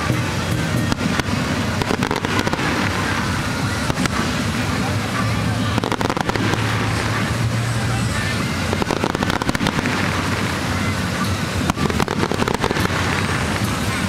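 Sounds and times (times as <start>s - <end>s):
background voices: 0.0s - 14.0s
fireworks bursting and crackling: 0.0s - 14.0s.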